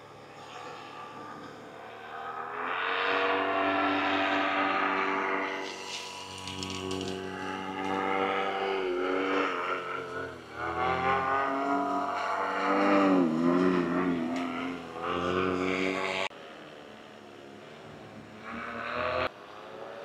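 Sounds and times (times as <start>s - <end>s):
aircraft engine droning overhead: 0.0s - 20.0s.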